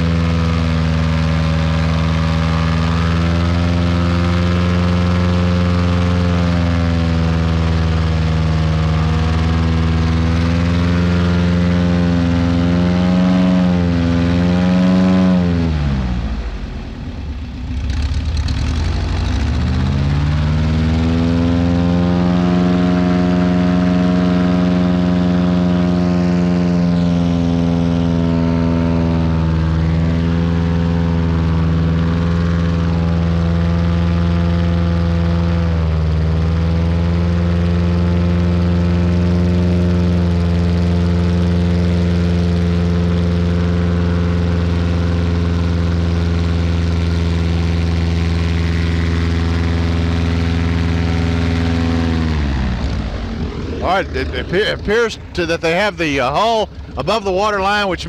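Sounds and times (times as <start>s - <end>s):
airboat engine and propeller: 0.0s - 58.0s.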